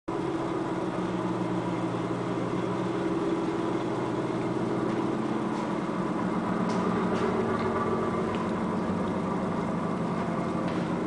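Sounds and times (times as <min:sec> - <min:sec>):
mechanical hum with hiss: 0:00.1 - 0:11.0.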